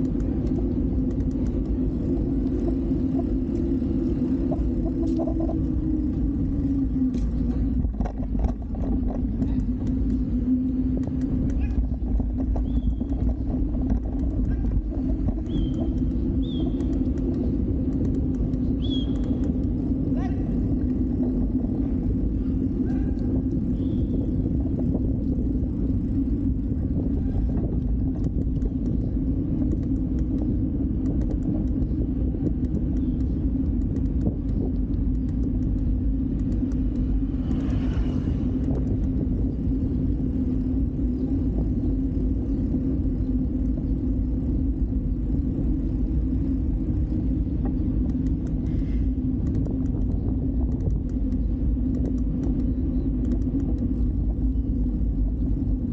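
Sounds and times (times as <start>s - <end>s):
bicycle riding rumble: 0.0s - 55.9s.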